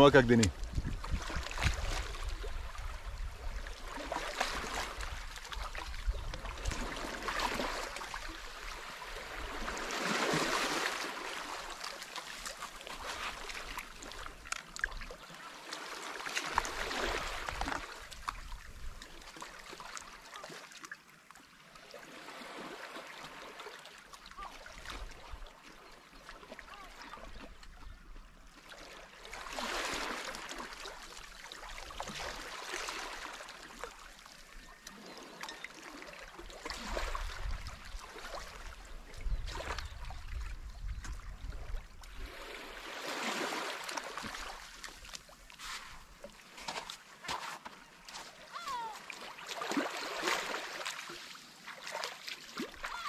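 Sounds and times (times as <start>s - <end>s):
waves washing on shore: 0.0s - 20.8s, 21.8s - 25.2s, 28.7s - 39.0s, 42.1s - 53.0s.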